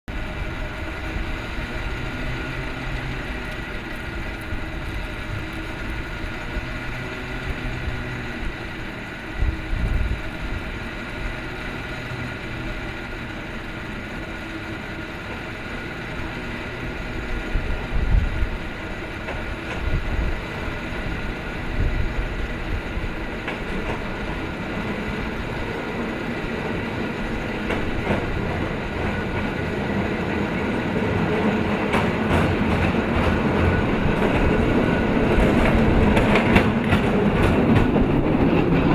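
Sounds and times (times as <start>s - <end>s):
traffic noise: 0.1s - 38.9s
tram running on rails: 0.1s - 38.9s.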